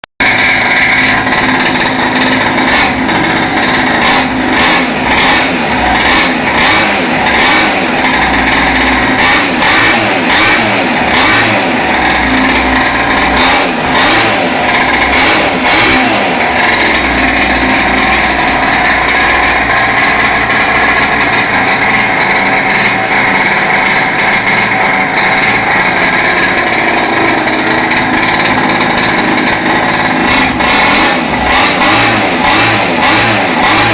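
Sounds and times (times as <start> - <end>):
small engine revving: 0.2 - 33.9.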